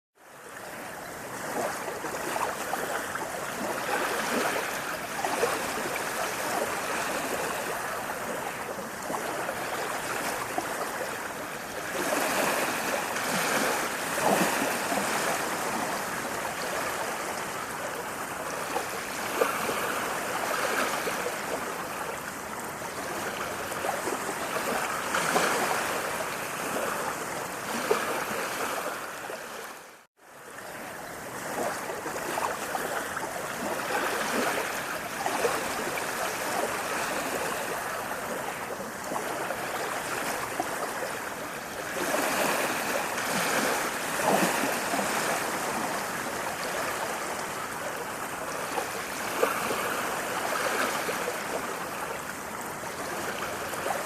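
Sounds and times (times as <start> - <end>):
water rushing and babbling: 0.2 - 54.0.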